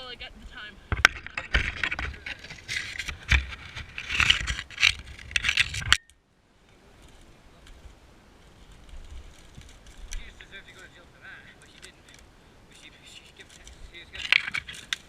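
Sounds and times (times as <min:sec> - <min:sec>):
scraping and rustling: 0:00.9 - 0:06.0, 0:06.7 - 0:15.0.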